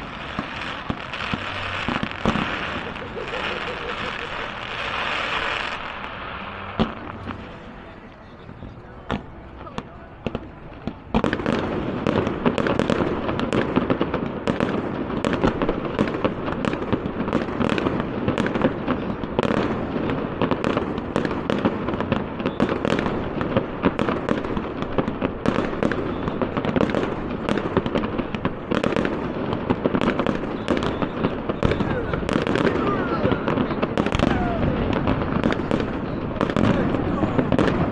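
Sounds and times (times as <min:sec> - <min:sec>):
fireworks banging: 0:00.0 - 0:37.9.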